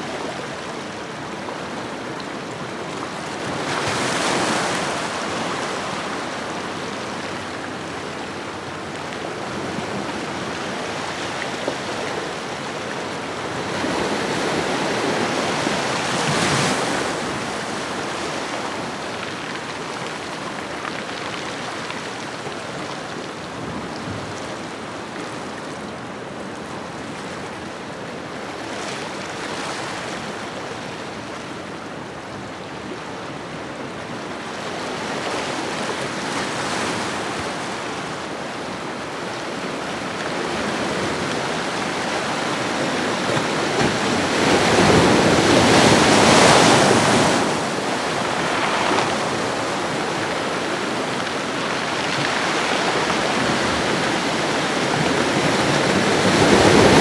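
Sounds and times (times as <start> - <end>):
ocean waves on shore: 0.0 - 25.6, 33.2 - 57.0.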